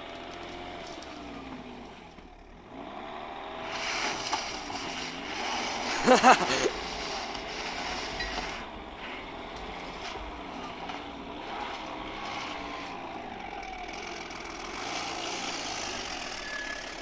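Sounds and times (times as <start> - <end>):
car engine revving off-road: 0.0 - 17.0.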